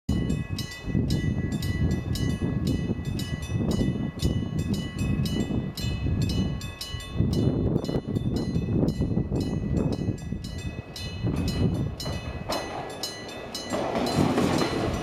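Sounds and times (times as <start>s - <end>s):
level crossing warning bell ringing: 0.1s - 15.0s.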